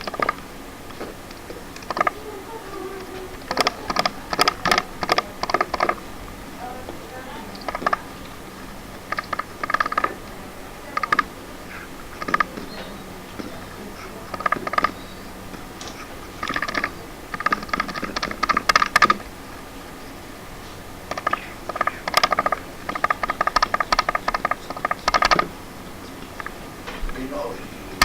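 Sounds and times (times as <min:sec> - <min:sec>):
rapid light clicking: 0:00.0 - 0:28.0.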